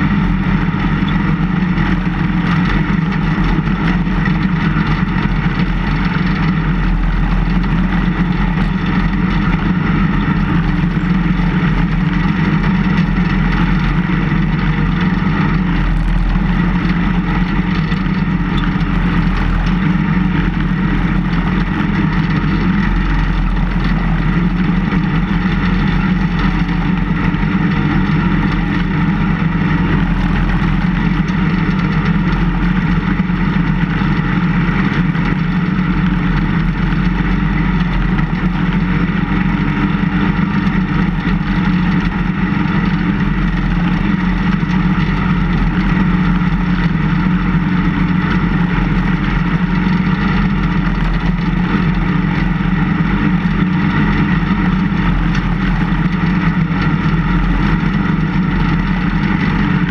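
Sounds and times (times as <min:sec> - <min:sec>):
snow plow engine running: 0:00.0 - 0:59.9.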